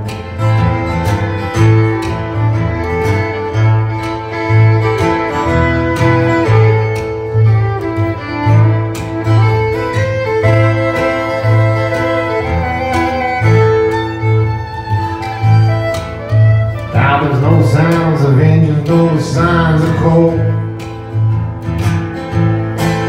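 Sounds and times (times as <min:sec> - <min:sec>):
fiddle melody: 0:00.0 - 0:23.0
plucked upright bass: 0:00.0 - 0:23.0
strummed acoustic guitar: 0:00.0 - 0:23.0.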